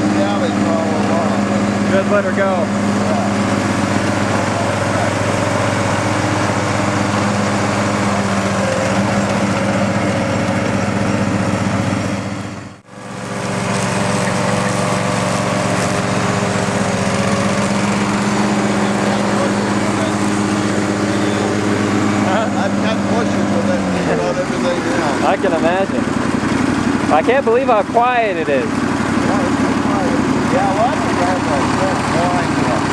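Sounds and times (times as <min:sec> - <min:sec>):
garden tractor engine mowing: 0:00.0 - 0:32.9.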